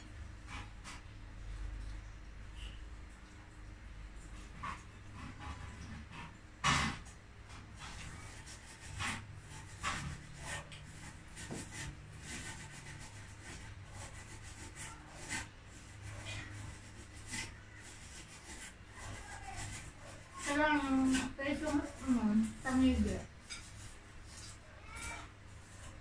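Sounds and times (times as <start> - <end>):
fingers working food on a plate: 0.0 - 3.5, 4.1 - 26.0.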